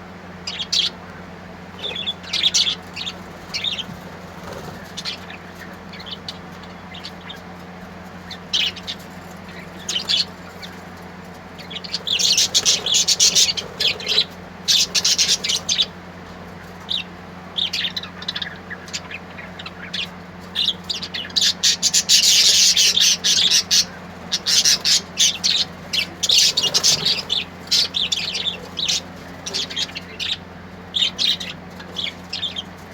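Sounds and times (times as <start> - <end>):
faint low hum: 0.0 - 32.9
small birds chirping: 0.0 - 32.9.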